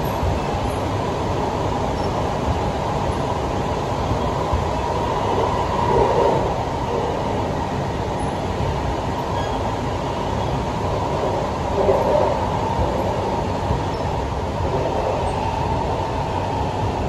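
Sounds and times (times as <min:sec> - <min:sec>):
train rumbling from inside carriage: 0:00.0 - 0:17.0.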